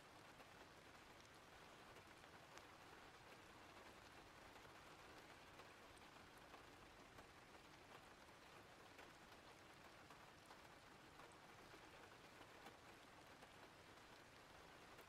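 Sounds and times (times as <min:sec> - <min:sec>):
raindrop ticks: 0:00.1 - 0:15.0.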